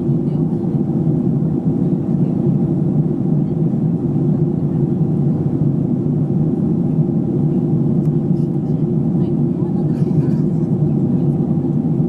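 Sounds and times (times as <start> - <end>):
jet engine and airflow drone: 0.0 - 12.0.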